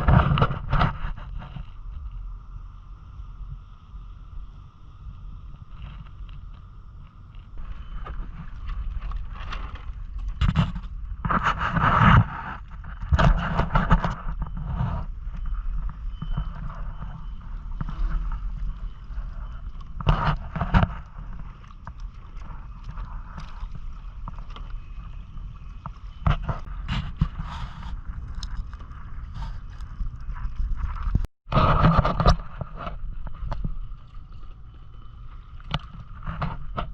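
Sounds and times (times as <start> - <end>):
wind rumbling on microphone: 0.0 - 36.9.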